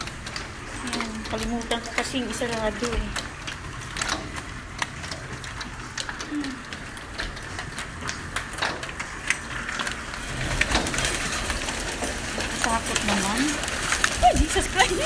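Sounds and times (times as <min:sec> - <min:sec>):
hail hitting hard surfaces: 0:00.0 - 0:15.0.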